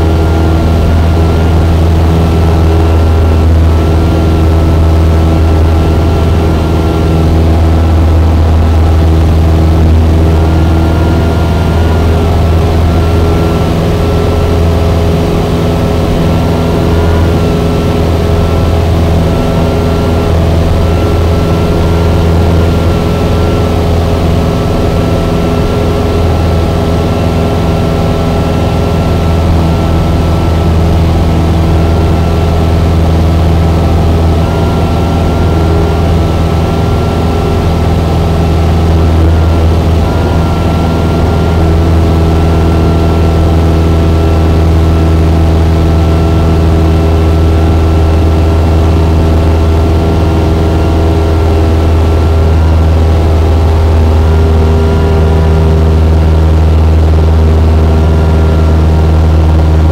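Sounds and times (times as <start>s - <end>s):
aircraft engine droning in cabin: 0.0s - 59.9s.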